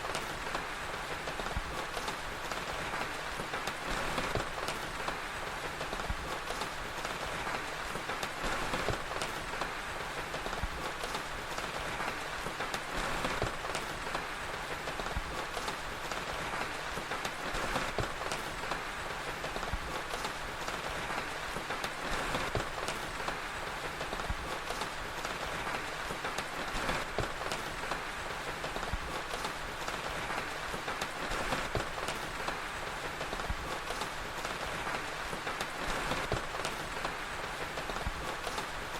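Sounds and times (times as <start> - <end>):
fire crackling and popping: 0.0 - 38.9
steady rain: 0.0 - 38.9.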